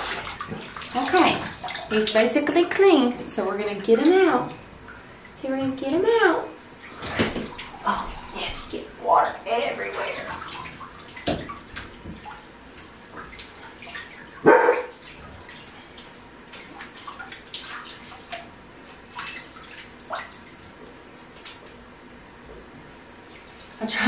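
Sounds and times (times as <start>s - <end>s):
water dripping into bathtub: 0.0s - 24.0s.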